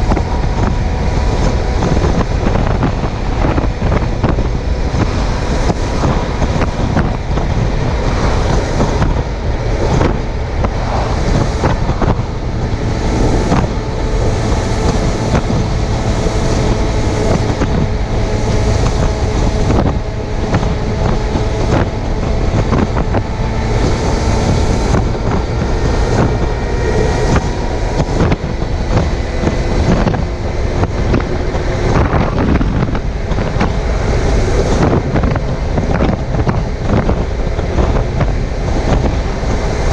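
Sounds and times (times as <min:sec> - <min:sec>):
motorcycle engine humming: 0:00.0 - 0:39.9
wind buffeting microphone: 0:00.0 - 0:39.9.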